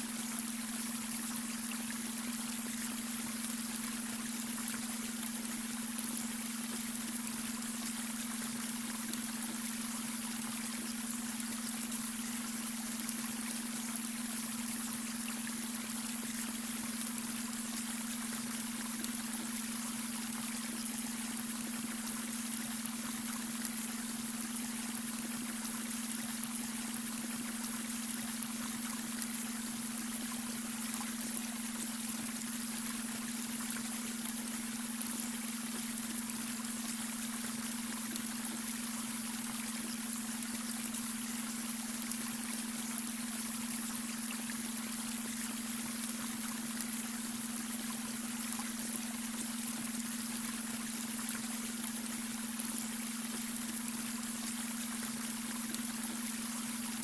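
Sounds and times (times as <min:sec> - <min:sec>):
brook water splashing over stones: 0:00.0 - 0:57.0
steady low hum tone: 0:00.0 - 0:57.0.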